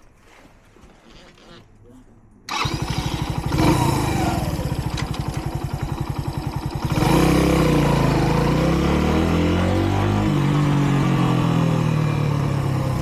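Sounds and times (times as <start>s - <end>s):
motorcycle engine idling and revving: 2.5s - 13.0s.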